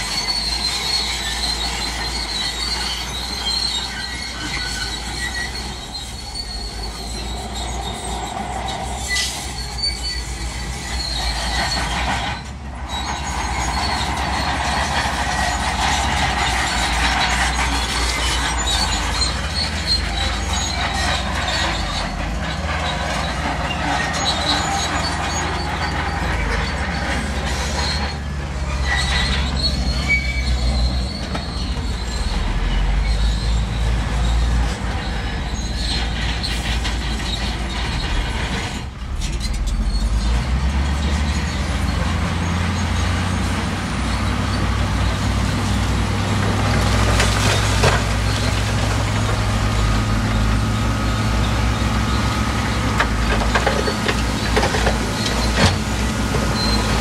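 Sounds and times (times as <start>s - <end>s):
diesel engine running: 0.0s - 57.0s
steel tracks squealing and clanking: 0.0s - 57.0s.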